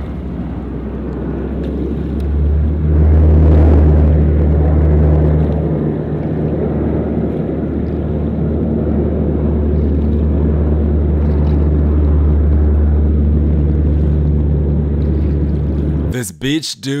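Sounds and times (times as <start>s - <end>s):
continuous rushing noise: 0.0s - 16.2s
propeller engines droning: 0.0s - 16.5s.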